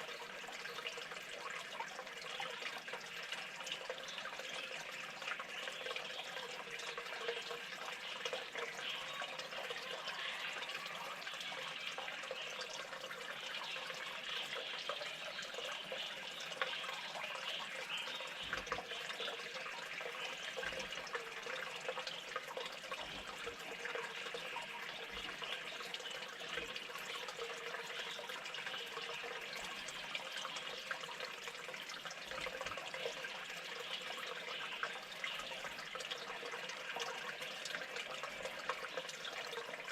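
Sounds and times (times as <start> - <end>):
water dripping: 0.0 - 39.9
water trickling and splashing: 0.0 - 39.9.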